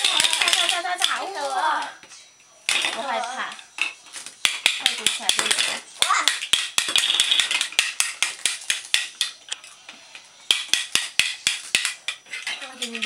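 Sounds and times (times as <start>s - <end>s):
plastic toy bricks clacking: 0.0s - 1.9s, 2.7s - 9.6s, 10.5s - 13.0s.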